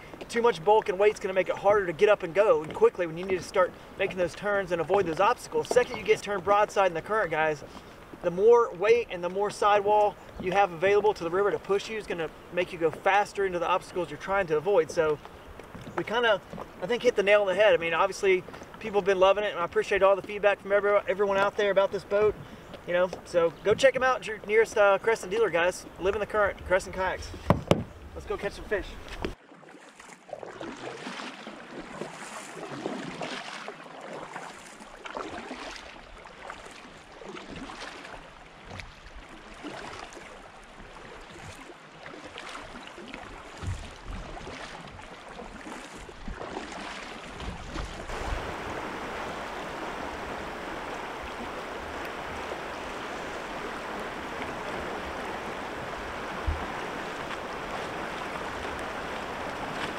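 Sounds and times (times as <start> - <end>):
water rushing: 0.0 - 59.9
water swishing around kayak: 0.0 - 59.9.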